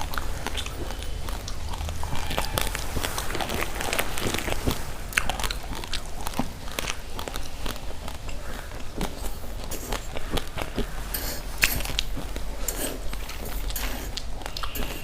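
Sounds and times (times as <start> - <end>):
chewing crunchy raw rice: 0.0 - 15.0.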